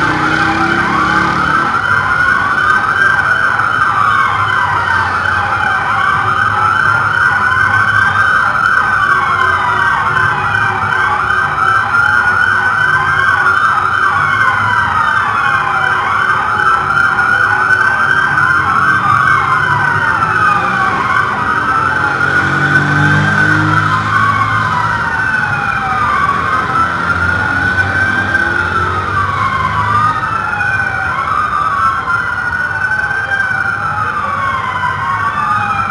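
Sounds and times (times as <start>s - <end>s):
police siren wailing: 0.0s - 35.9s.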